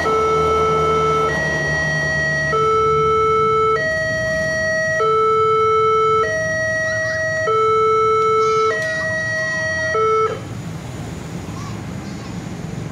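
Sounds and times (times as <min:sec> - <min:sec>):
two-tone crossing alarm: 0:00.0 - 0:10.6.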